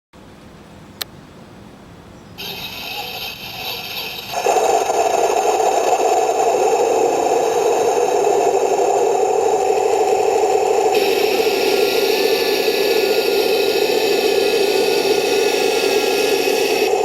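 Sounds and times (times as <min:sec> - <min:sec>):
high whine: 0:02.4 - 0:17.0
toy tank running with rattle: 0:02.4 - 0:17.0.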